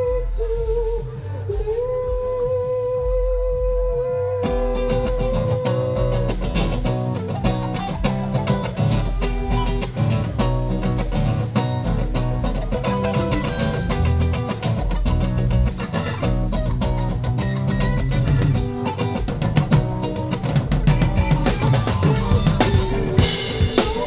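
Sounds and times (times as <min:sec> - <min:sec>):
drum kit with cymbals: 0:00.0 - 0:24.0
live rock band playing: 0:04.4 - 0:24.0.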